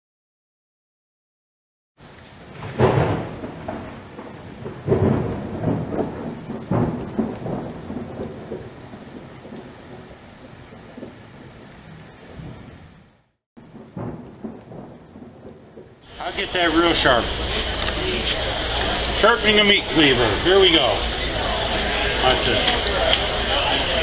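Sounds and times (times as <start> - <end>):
heavy rain hissing: 2.0 - 24.0
thunderclaps: 2.0 - 24.0.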